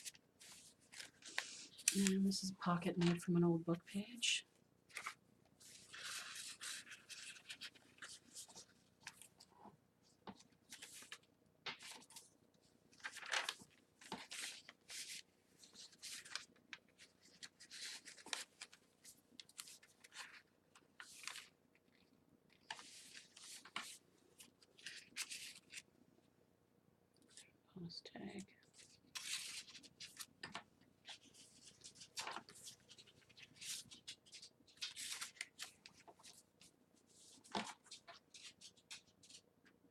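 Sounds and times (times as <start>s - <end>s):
paper rustling and crinkling: 0.0s - 3.3s, 4.9s - 25.9s, 28.6s - 39.8s.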